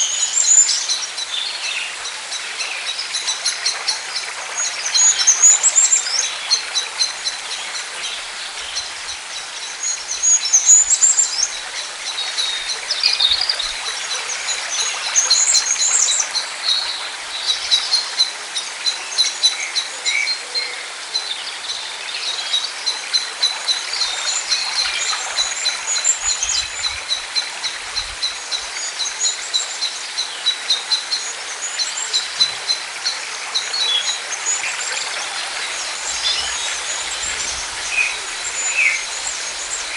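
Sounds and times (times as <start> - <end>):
birds chirping and singing: 0.0 - 39.9
outdoor background hiss: 0.0 - 39.9.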